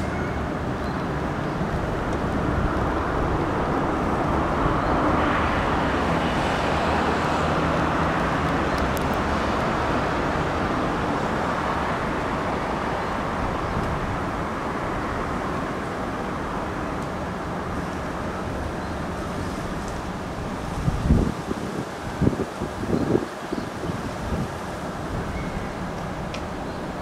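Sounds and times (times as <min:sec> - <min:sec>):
strong wind rushing through trees: 0:00.0 - 0:27.0
wind buffeting microphone: 0:00.4 - 0:27.0.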